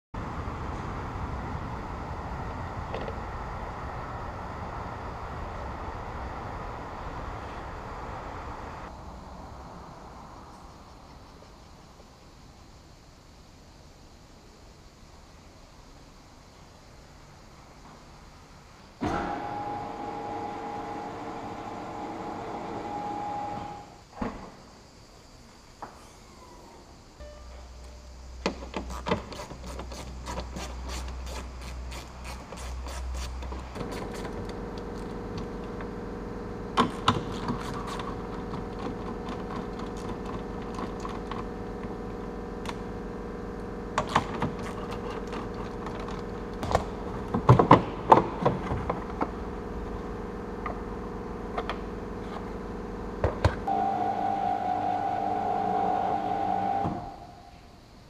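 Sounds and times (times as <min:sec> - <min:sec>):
steady machine hum: 0:00.2 - 0:10.4, 0:18.9 - 0:25.0, 0:26.9 - 0:58.0.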